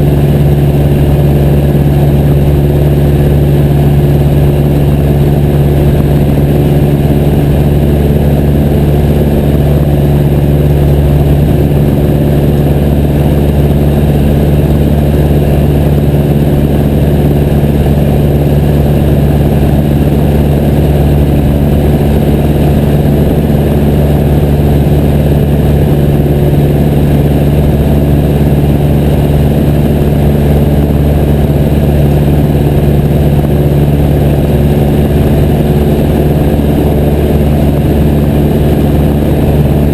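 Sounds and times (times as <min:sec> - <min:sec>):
small plane engine drone: 0:00.0 - 0:39.9.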